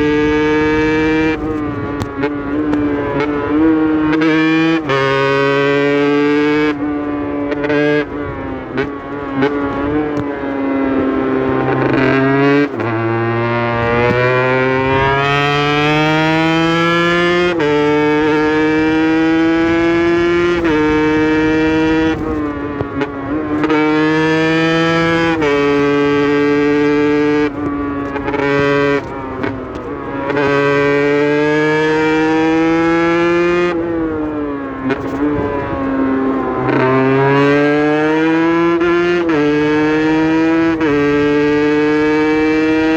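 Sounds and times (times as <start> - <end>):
two-stroke motorcycle engine revving: 0.0 - 42.9.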